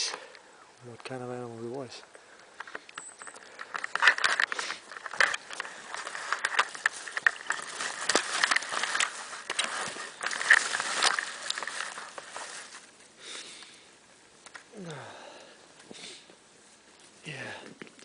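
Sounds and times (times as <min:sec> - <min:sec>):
forest litter crackling and rustling: 0:00.0 - 0:18.0.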